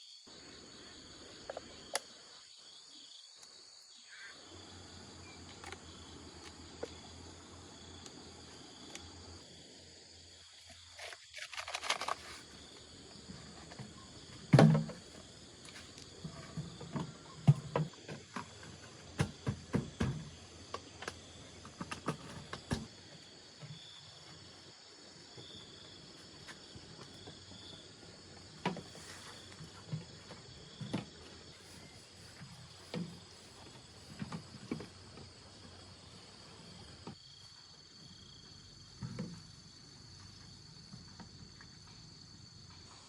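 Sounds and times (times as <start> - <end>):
insects chirring: 0.0 - 43.0.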